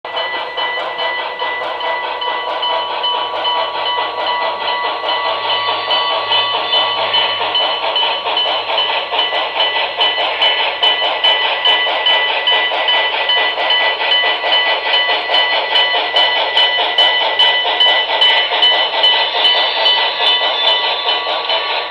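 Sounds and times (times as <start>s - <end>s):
steam locomotive sounds from small speaker: 0.1s - 21.9s.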